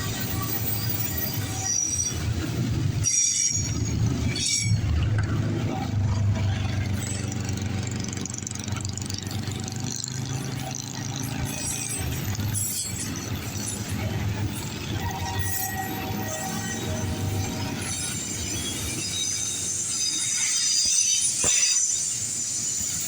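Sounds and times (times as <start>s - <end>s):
freight train rumbling on rails: 0.0s - 23.0s
train wheel squeals: 0.0s - 23.0s.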